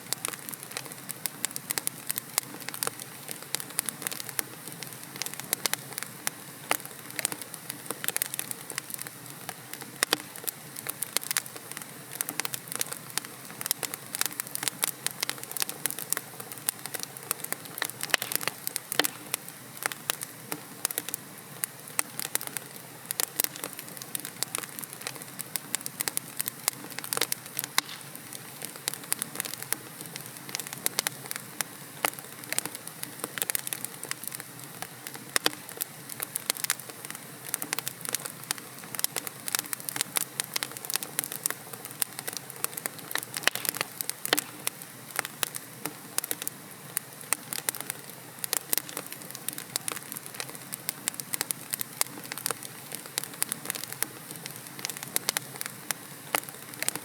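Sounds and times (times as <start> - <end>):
low hiss: 0.0 - 57.0
wood fire crackling: 0.0 - 57.0.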